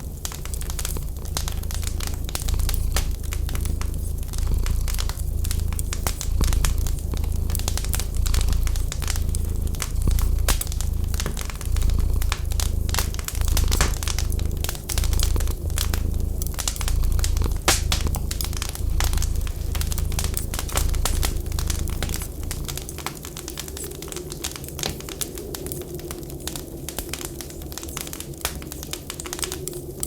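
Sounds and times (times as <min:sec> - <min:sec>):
cat purring: 0:00.0 - 0:26.2
wood fire crackling and popping: 0:00.0 - 0:30.0.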